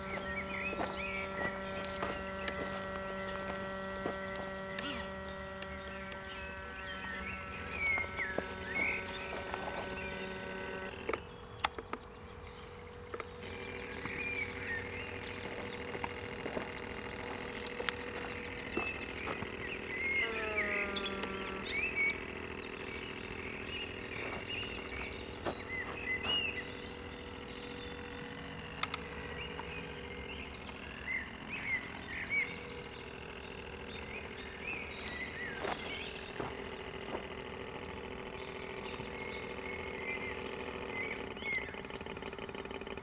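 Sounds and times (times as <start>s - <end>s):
sharp clicks: 0.0s - 43.0s
small birds chirping: 0.0s - 43.0s
steady low hum: 0.0s - 43.0s.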